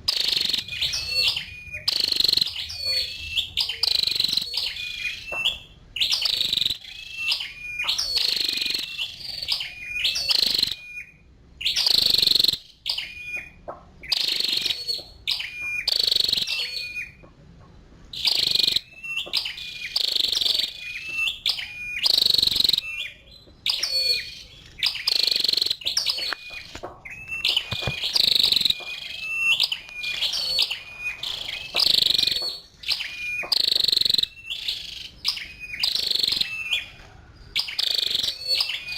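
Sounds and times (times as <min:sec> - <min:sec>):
bird calling high chips: 0:00.0 - 0:17.2, 0:18.1 - 0:38.9.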